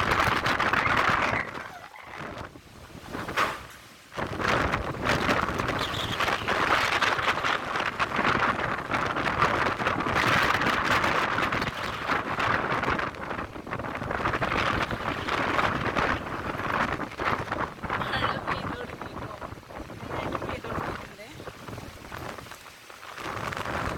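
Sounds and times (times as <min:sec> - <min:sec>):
heavy rain: 0:00.0 - 0:23.9
wind buffeting microphone: 0:00.0 - 0:23.9.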